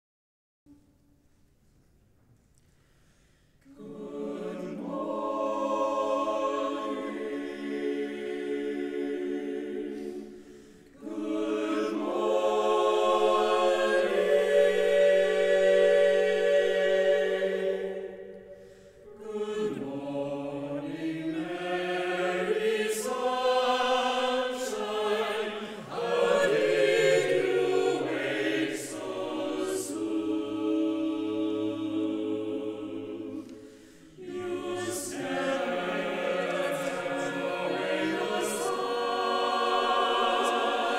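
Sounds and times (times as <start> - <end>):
choir singing a cappella: 3.6 - 40.9.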